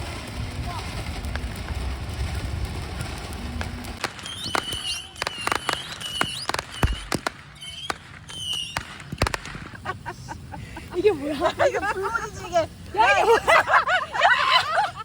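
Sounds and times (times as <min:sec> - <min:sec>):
fireworks popping and crackling: 0:00.0 - 0:15.0
fireworks whistling: 0:00.0 - 0:15.0.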